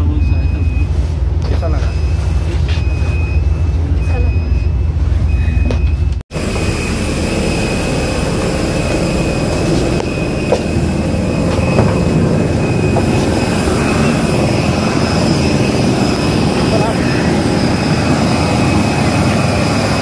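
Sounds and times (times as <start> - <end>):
jet engine whine: 0.0 - 20.0
low rumble: 0.0 - 20.0.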